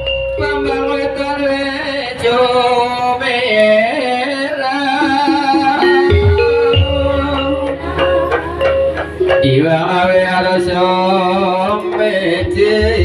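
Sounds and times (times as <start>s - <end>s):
metallophone notes: 0.0s - 13.0s
person singing: 0.4s - 13.0s.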